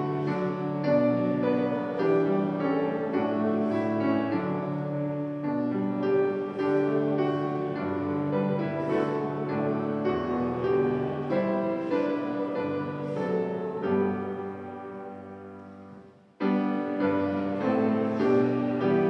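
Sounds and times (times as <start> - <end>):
keyboard playing hymn chords: 0.0 - 19.0.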